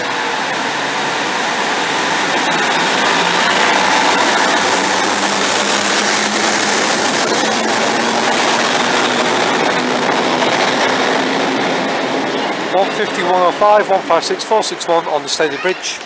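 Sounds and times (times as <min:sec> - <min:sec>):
train engine drone: 0:00.0 - 0:16.0
wheel and rail noise: 0:00.0 - 0:16.0.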